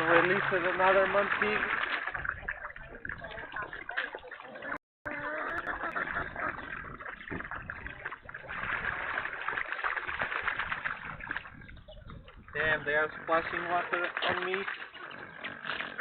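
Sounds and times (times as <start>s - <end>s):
water splashing and sloshing: 0.0s - 16.0s.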